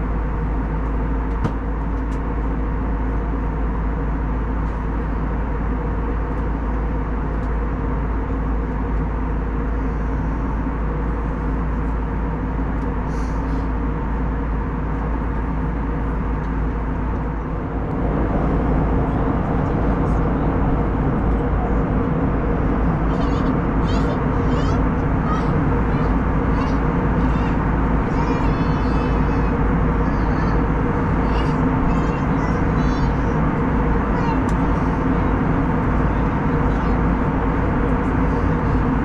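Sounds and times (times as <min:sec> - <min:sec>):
airplane cabin engine drone: 0:00.0 - 0:39.0.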